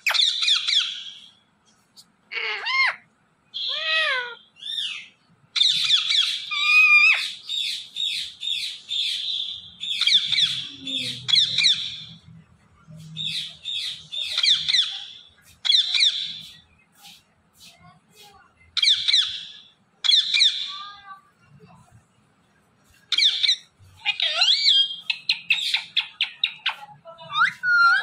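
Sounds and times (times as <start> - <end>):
parakeet chattering chirps and squawks: 0.0 - 1.4, 2.3 - 12.2, 13.2 - 18.2, 18.8 - 21.1, 23.0 - 28.0.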